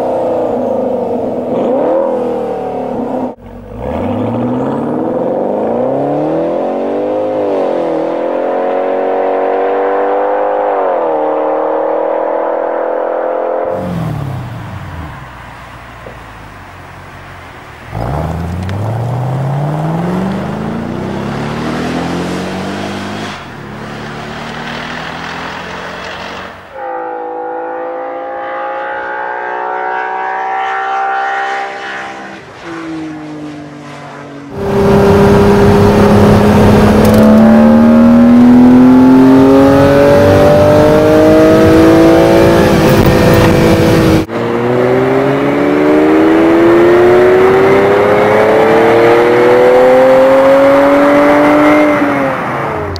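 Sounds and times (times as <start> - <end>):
car engines accelerating: 0.0 - 52.9.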